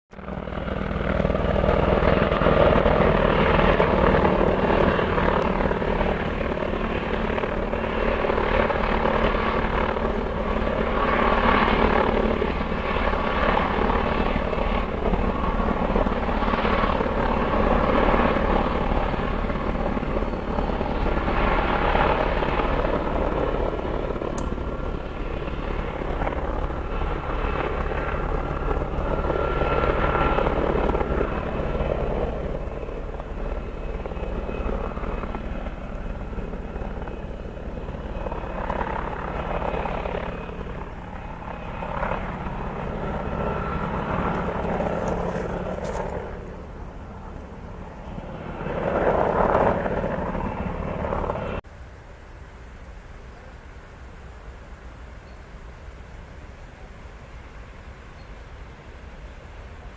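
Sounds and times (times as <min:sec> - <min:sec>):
helicopter flying overhead: 0:00.1 - 0:51.6.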